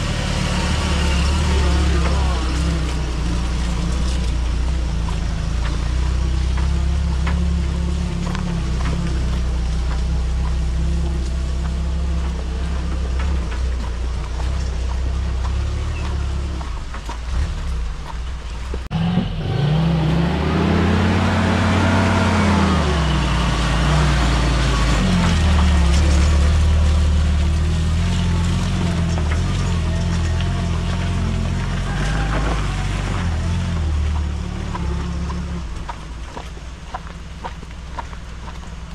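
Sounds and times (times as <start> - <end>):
jeep engine running: 0.0 - 38.9.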